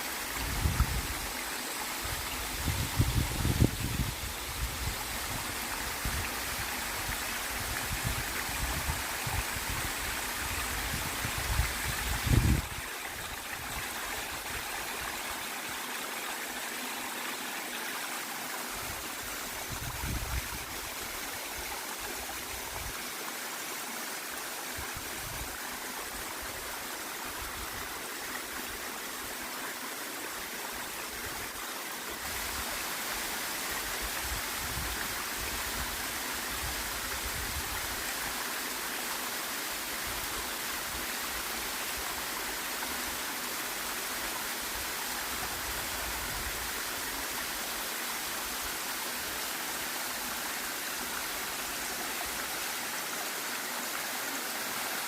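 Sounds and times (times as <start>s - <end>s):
waterfall and stream rushing: 0.0s - 55.0s.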